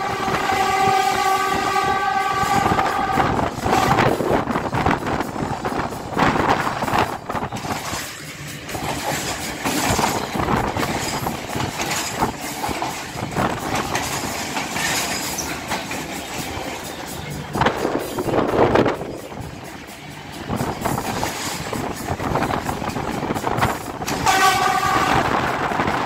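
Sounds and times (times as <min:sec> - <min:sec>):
train carriage rumbling and rattling: 0:00.0 - 0:26.0.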